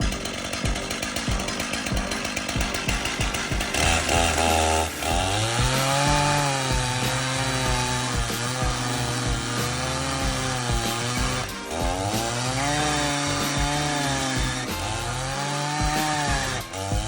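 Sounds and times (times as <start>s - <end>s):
chainsaw grinding tree stump: 0.0s - 17.0s.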